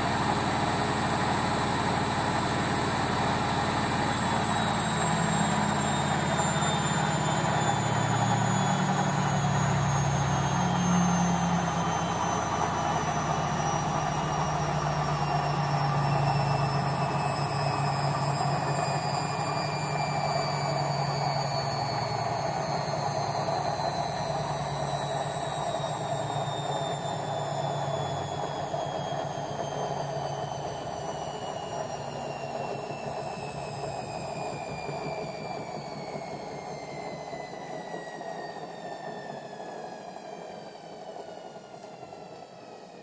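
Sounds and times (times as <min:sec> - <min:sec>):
washing machine motor whine: 0:00.0 - 0:43.0.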